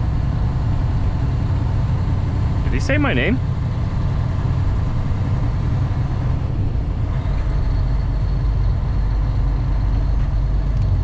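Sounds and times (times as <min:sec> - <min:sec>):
truck diesel engine drone: 0:00.0 - 0:11.0
tyres on highway: 0:00.0 - 0:11.0.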